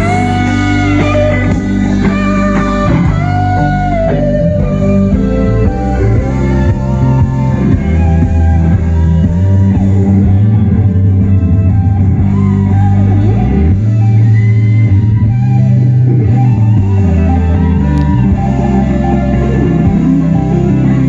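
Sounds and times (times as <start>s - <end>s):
loud country-rock music: 0.0s - 21.0s.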